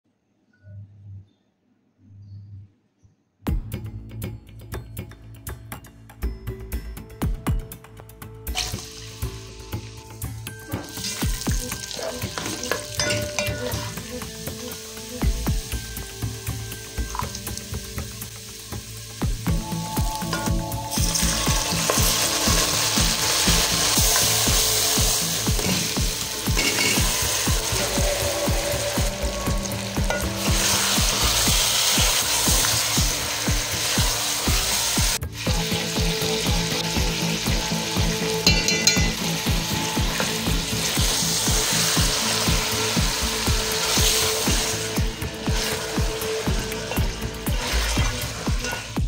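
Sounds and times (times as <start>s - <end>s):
onions and spices sizzling in oil: 8.5s - 49.0s.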